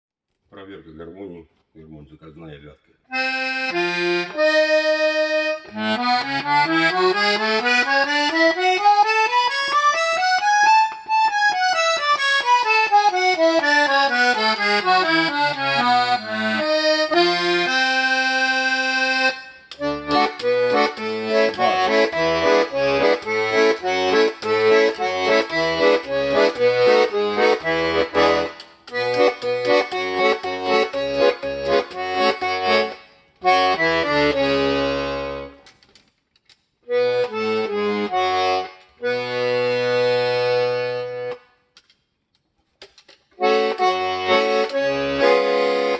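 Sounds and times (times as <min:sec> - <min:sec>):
button accordion playing: 0:03.1 - 0:35.7, 0:36.9 - 0:41.7, 0:43.4 - 0:45.9.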